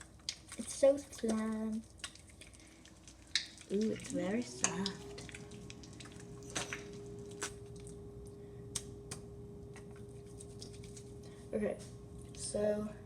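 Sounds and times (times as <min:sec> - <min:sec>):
slime squelching: 0:00.0 - 0:11.4
faint steady hum: 0:00.0 - 0:13.0.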